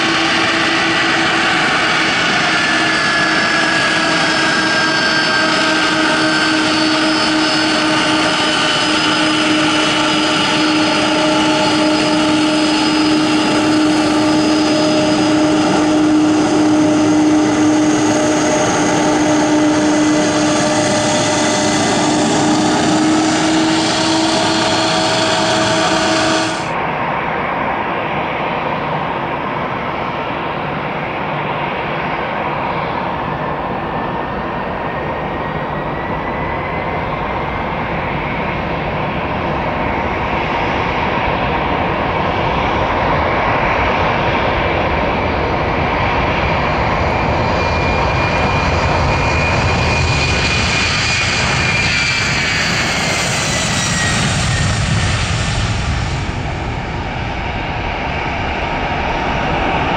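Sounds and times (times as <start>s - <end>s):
distant dull jet engine noise: 0.0s - 59.9s
jet engines whining: 0.0s - 59.9s.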